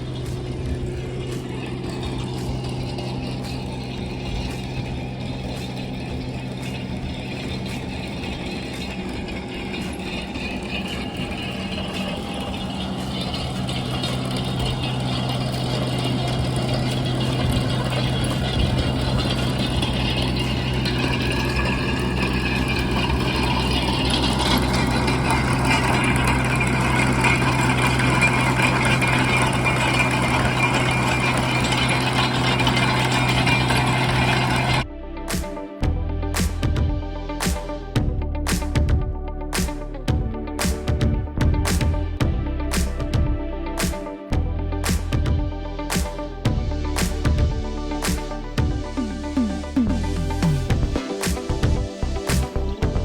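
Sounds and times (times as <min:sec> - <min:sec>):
engine humming: 0:00.0 - 0:53.0.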